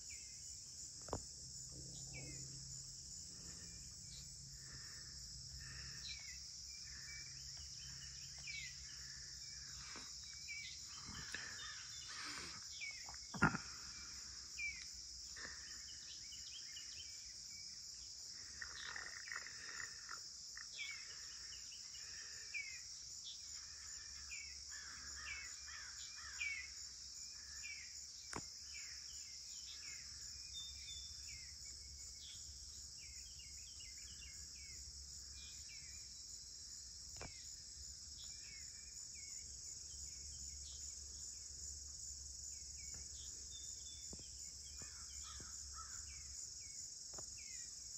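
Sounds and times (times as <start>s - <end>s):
crickets trilling: 0.0s - 47.9s.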